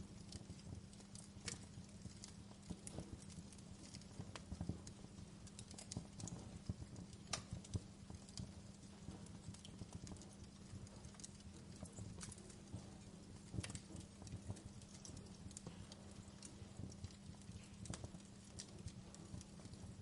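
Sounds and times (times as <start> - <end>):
faint low hum: 0.0 - 20.0
wood fire crackling: 0.0 - 20.0.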